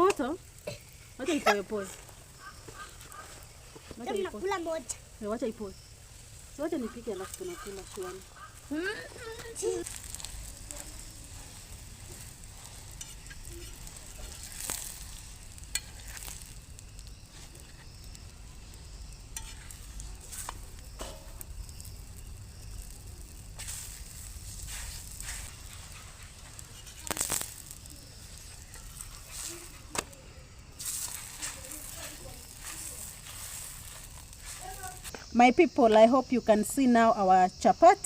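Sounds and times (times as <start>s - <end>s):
flatbread sizzling in oil: 0.0s - 37.9s.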